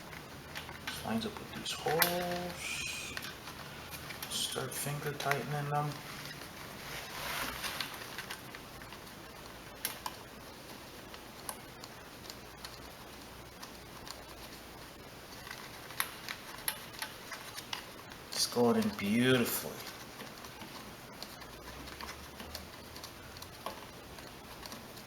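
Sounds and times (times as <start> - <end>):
faint clicks and rustling: 0.0 - 25.0.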